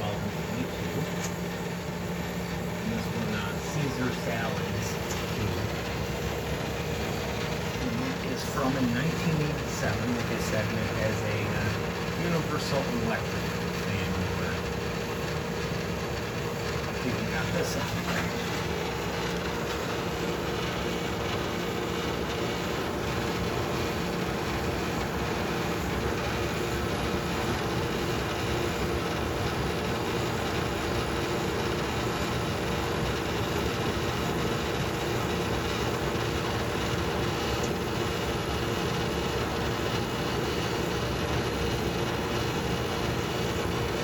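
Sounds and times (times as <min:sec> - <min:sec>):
compressor humming: 0:00.0 - 0:44.0
fan air rushing: 0:00.0 - 0:44.0.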